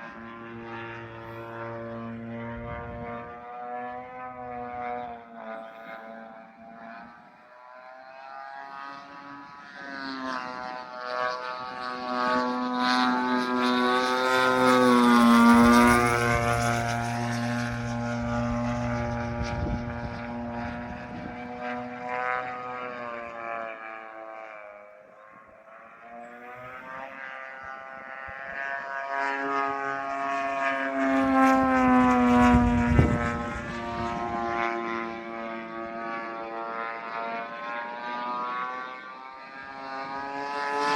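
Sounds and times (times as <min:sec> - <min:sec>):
propeller plane passing: 0:00.0 - 0:40.9.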